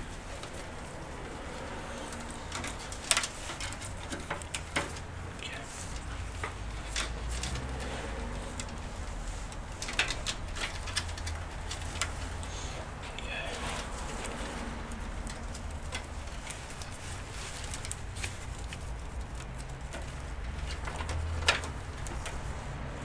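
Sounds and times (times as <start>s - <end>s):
plastic parts clicking and rustling: 0.0s - 23.0s.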